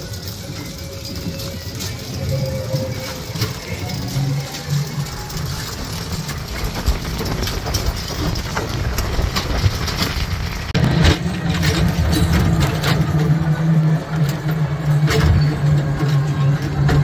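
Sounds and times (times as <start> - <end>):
rattles and knocks: 0.0 - 17.0
vehicle engine humming: 0.0 - 17.0.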